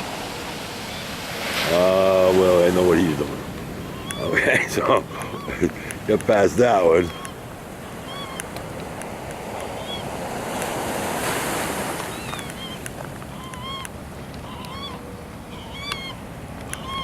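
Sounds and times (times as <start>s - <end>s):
gulls mewing: 0.0s - 17.0s
ocean surf breaking: 0.0s - 17.0s.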